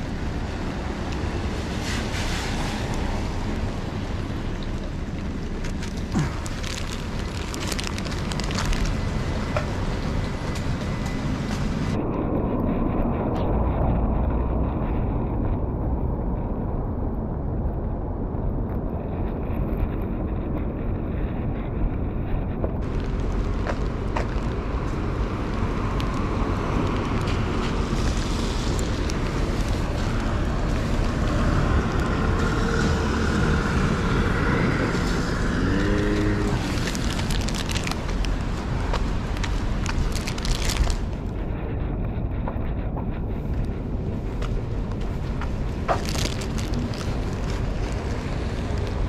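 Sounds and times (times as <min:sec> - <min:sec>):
city traffic rumble: 0:00.0 - 0:49.0
wind buffeting microphone: 0:00.0 - 0:49.0.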